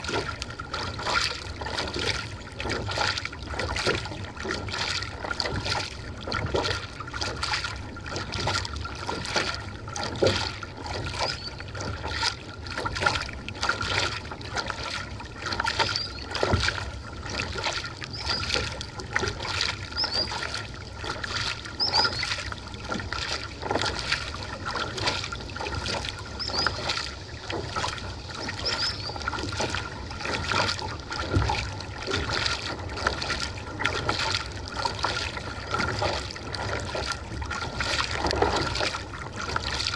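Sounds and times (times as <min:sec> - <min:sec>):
paddle blades splashing: 0:00.0 - 0:39.9
water lapping along hull: 0:00.0 - 0:39.9.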